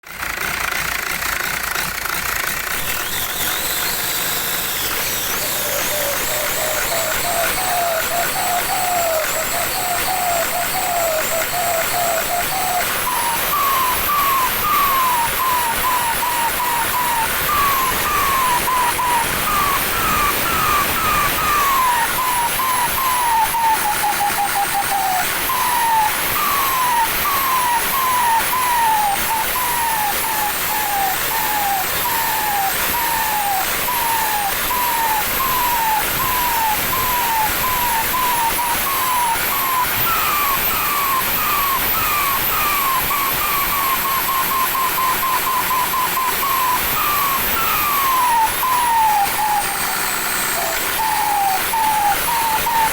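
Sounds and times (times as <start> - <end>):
turbocharger whistling chirps: 0.0 - 52.9.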